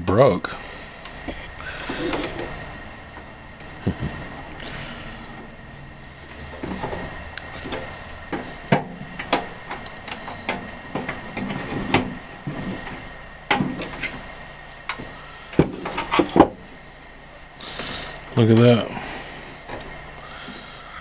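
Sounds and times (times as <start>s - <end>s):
scraping in wiring: 0.6s - 20.0s.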